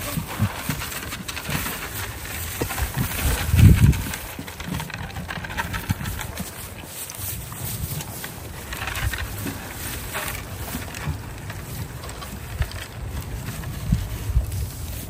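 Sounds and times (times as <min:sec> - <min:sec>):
goats knocking feed pans: 0:00.0 - 0:14.8.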